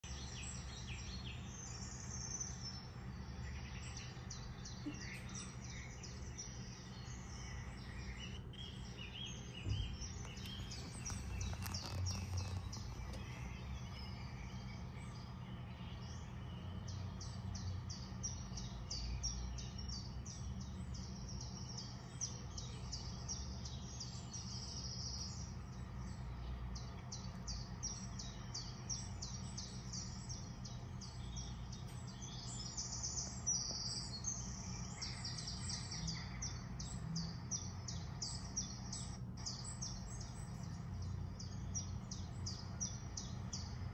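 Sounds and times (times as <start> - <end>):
birdsong chirps from speaker: 0.0 - 43.9
steady low hum: 0.0 - 43.9.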